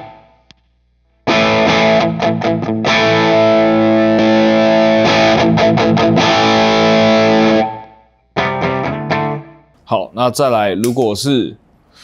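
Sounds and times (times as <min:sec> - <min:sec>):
distorted electric guitar: 0:00.0 - 0:09.7.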